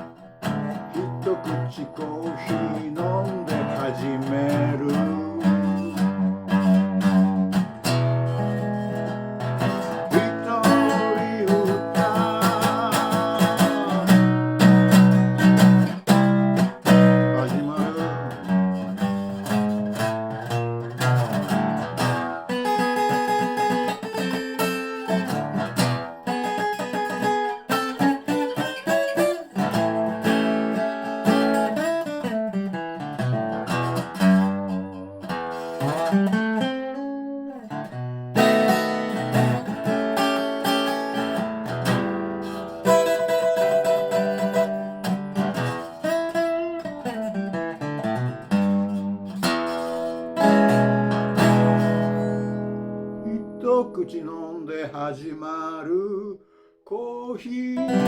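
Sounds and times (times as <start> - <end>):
slide resonator guitar playing: 0.0 - 54.8, 57.5 - 58.0.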